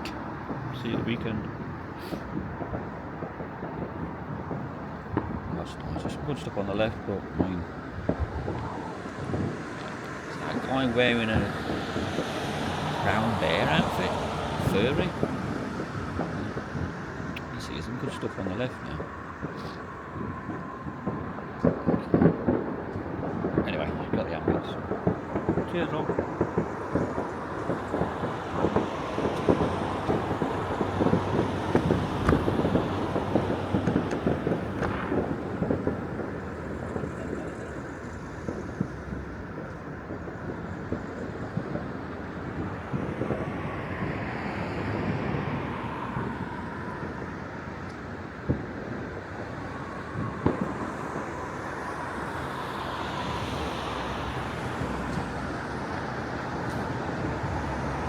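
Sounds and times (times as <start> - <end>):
road traffic passing: 0.0 - 58.0
wind buffeting microphone: 0.0 - 58.0.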